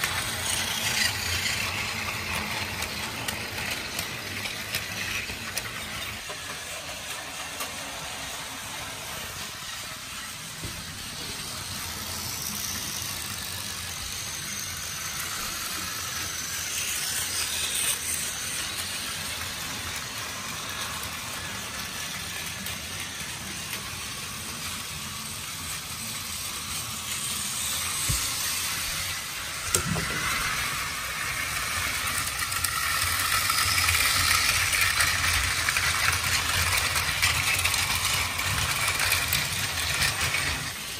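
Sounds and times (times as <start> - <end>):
toy trains whirring on track: 0.0 - 40.9.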